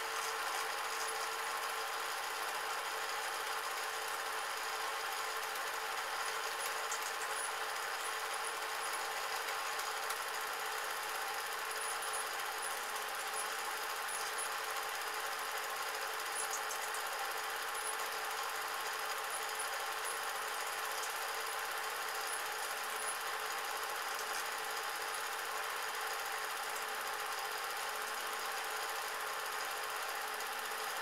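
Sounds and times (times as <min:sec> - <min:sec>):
film projector running: 0:00.0 - 0:31.0.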